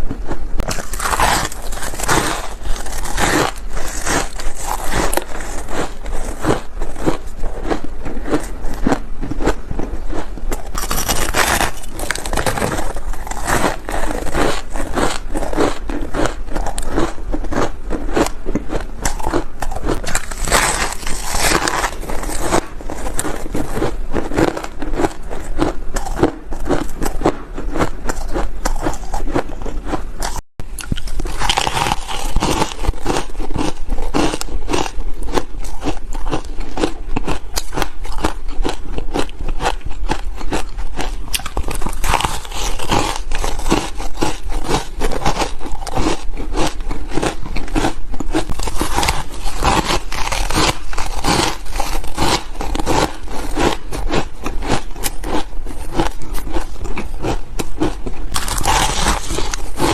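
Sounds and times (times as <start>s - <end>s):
chewing ice crunches: 0.0s - 59.9s.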